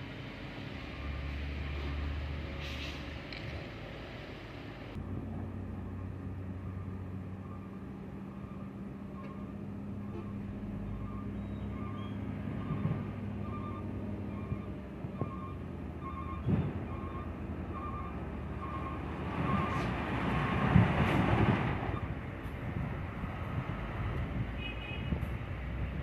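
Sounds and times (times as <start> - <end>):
heavy machinery engine drone: 0.0 - 24.5.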